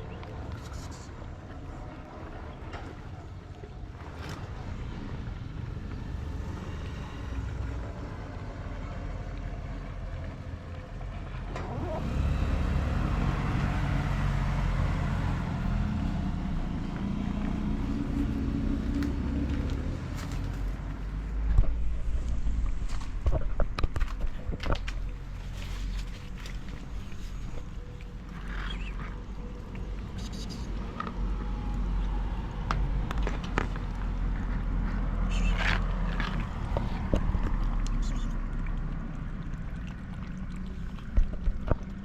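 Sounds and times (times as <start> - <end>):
vehicle engine rumbling: 0.0 - 42.0.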